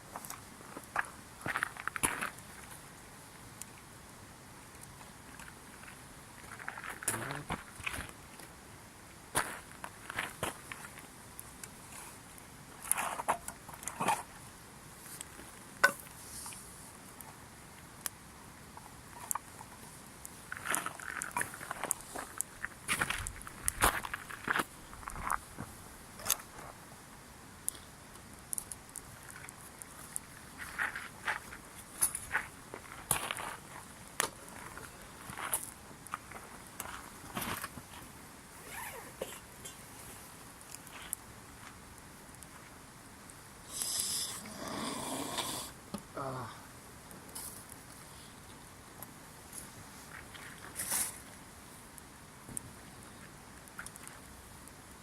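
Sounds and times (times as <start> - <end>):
campfire crackling and popping: 0.0 - 46.1, 46.7 - 55.0.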